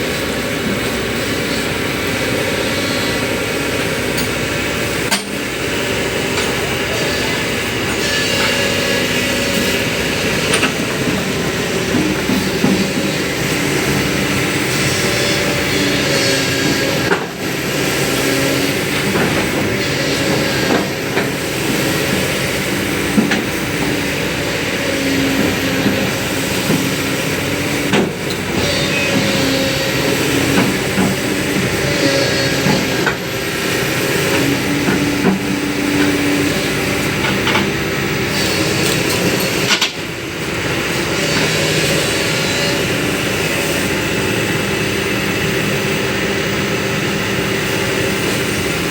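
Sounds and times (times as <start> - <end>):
excavator diesel engine under load: 0.0 - 48.9.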